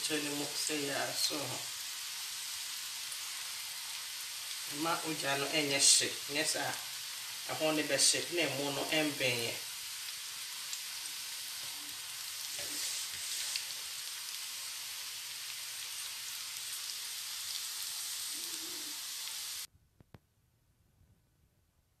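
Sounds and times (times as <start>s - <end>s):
food sizzling in hot oil: 0.0s - 19.7s.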